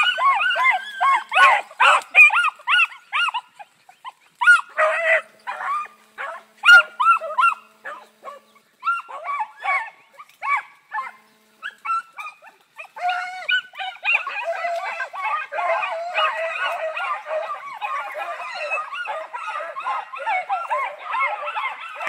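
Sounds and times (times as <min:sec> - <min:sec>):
dogs baying and barking: 0:00.0 - 0:22.0.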